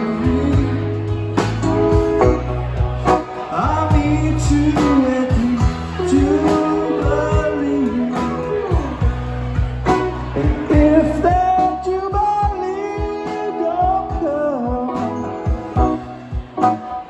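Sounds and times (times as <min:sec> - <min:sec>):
drum kit steady beat: 0:00.0 - 0:17.0
electric bass: 0:00.0 - 0:17.0
electric guitar: 0:00.0 - 0:17.0.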